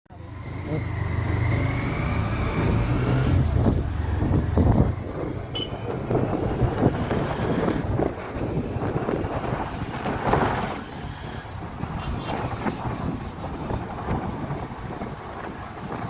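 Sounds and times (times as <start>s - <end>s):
motorcycle engine: 0.2s - 14.2s
wind rushing over microphone: 1.4s - 16.0s.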